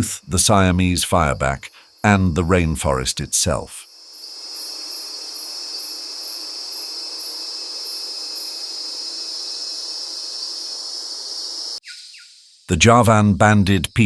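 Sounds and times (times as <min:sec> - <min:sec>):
insect chorus drone: 0:00.0 - 0:12.6.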